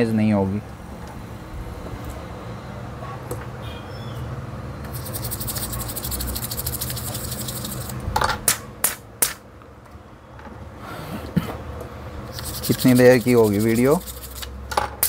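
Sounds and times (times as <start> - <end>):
steady low hum: 0.0 - 3.2, 4.2 - 14.7.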